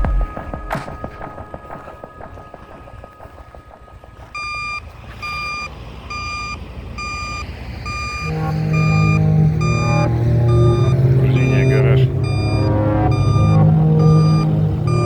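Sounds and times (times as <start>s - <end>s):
low hum: 0.0s - 5.9s, 8.3s - 15.0s
vehicle reversing alarm beeping: 0.0s - 15.0s.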